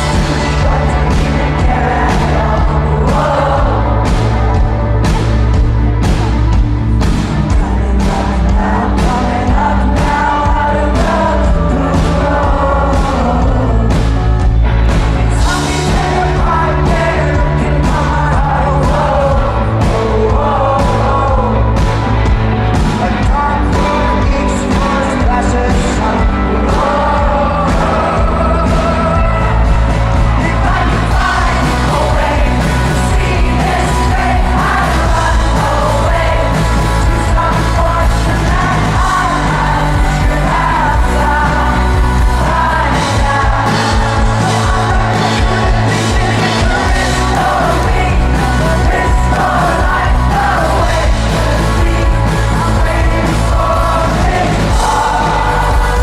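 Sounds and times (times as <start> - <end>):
lead vocals: 0.0 - 56.0
rock band playing live: 0.0 - 56.0.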